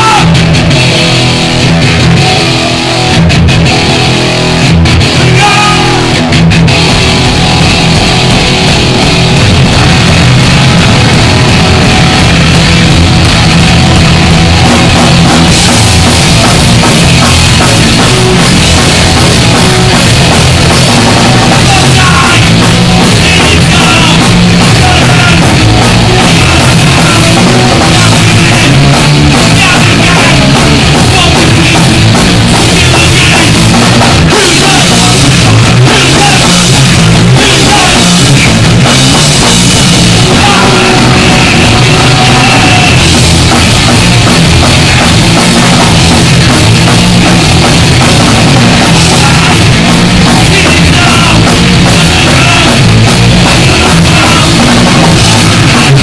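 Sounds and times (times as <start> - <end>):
bass guitar: 0.0 - 56.0
distorted electric guitar: 0.0 - 56.0
drum kit: 0.0 - 56.0.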